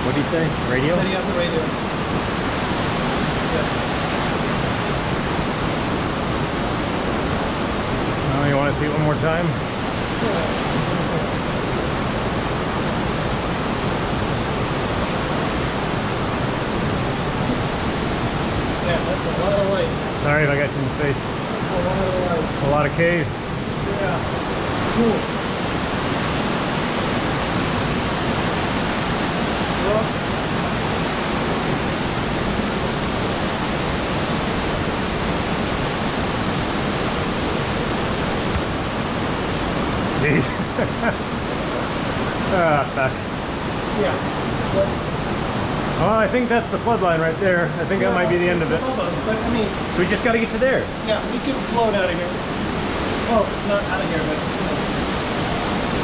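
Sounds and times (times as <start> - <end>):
water rushing in a cave: 0.0 - 56.0.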